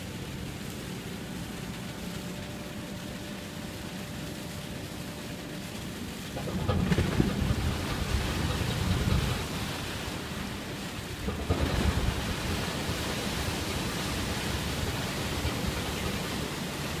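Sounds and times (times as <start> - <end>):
low steady rumble: 0.0 - 17.0
water churning and rushing: 0.0 - 17.0.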